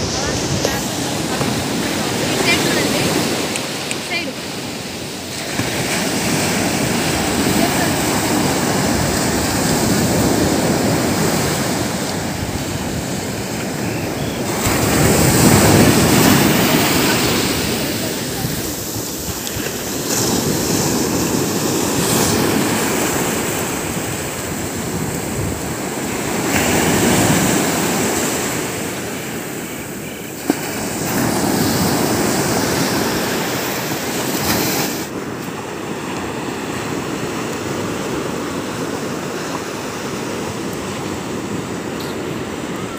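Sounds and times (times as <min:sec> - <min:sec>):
waves breaking on beach: 0:00.0 - 0:42.9.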